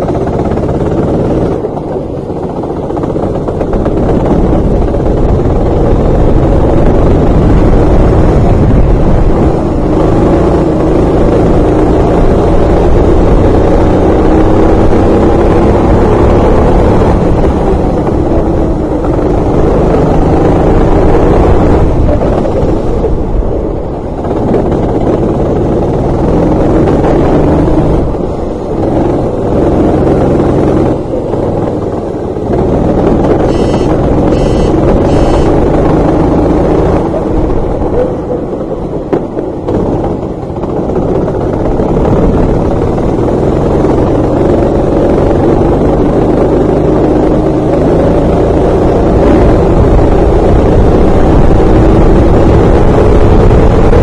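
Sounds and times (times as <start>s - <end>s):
kart engine revving: 0.0s - 54.0s
wind buffeting microphone: 0.0s - 54.0s.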